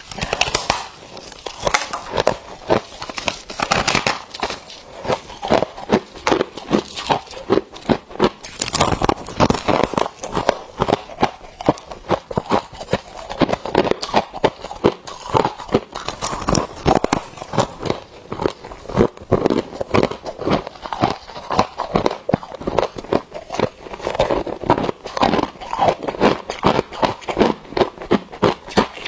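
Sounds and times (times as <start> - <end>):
frost crunching when chewed: 0.0 - 29.0.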